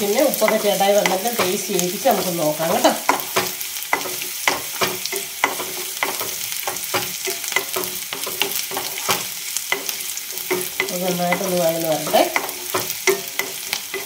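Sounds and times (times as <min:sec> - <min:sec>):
food sizzling in hot oil: 0:00.0 - 0:14.0
spatula scraping and tapping pan: 0:00.0 - 0:14.0.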